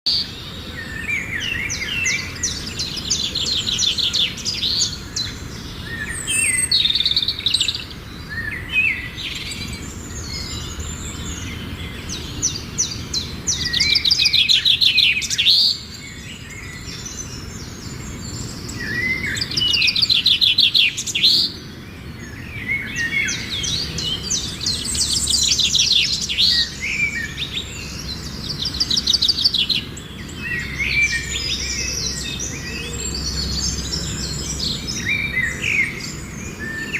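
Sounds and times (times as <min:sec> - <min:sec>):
songbirds singing trills: 0:00.1 - 0:36.9.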